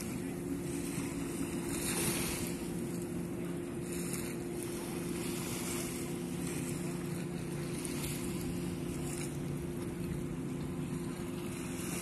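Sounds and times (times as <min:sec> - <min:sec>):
low engine hum: 0:00.0 - 0:12.0
small waves washing on sand: 0:00.0 - 0:12.0.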